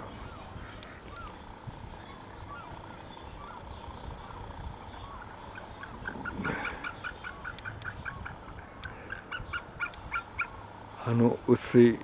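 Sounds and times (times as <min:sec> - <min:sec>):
birds honking: 0:00.0 - 0:11.8
low background noise: 0:00.0 - 0:12.0.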